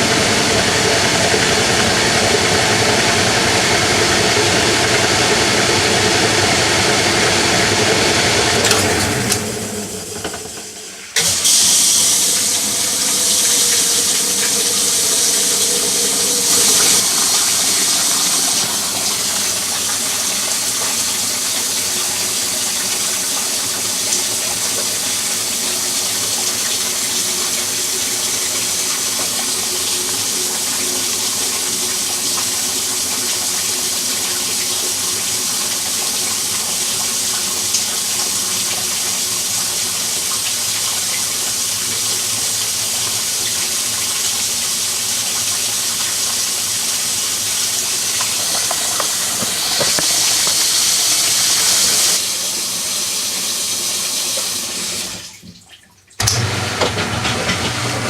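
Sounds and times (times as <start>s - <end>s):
water gushing into washing machine: 0.0s - 58.0s.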